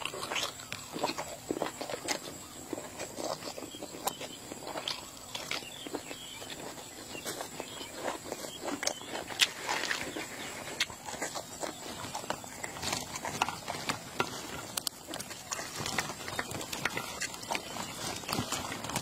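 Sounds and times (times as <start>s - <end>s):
chewing with wet mouth smacks: 0.0s - 19.0s.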